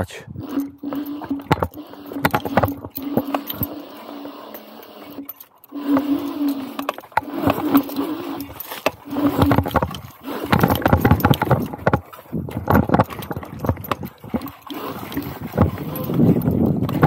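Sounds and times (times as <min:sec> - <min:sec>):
scooter rattling on sandy trail: 0:00.0 - 0:17.0
wavering hum: 0:00.0 - 0:17.0.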